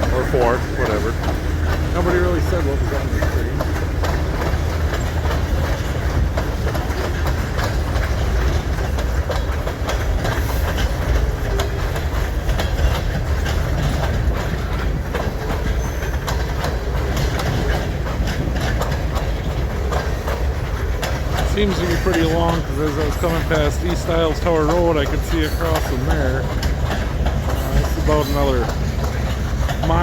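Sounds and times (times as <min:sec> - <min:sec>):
train wheels rumbling on rail: 0:00.0 - 0:30.0
wheels clacking over rail joints: 0:00.0 - 0:30.0.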